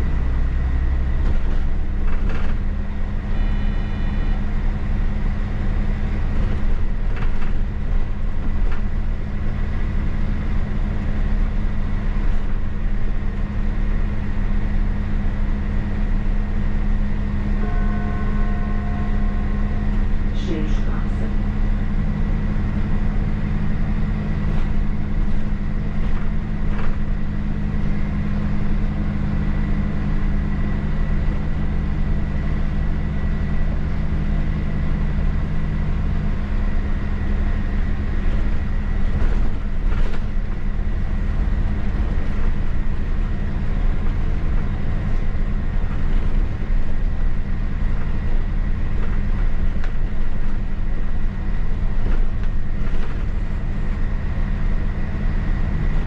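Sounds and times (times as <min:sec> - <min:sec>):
bus engine hum: 0:00.0 - 0:56.0
road noise: 0:00.0 - 0:56.0.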